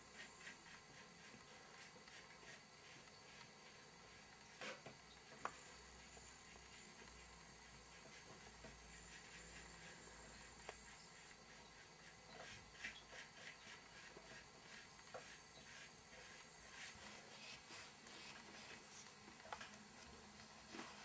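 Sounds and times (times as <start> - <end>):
paintbrush scratching on paper: 0.0 - 4.7, 5.3 - 19.1.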